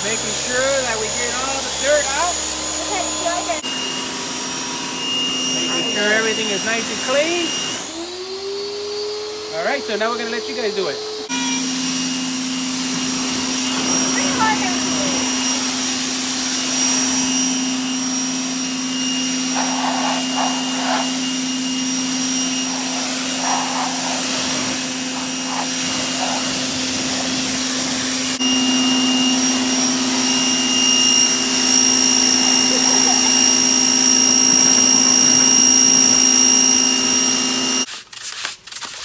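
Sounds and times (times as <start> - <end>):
water jet hissing: 0.0 - 8.0, 11.9 - 37.9
pressure washer motor whine: 0.0 - 37.9.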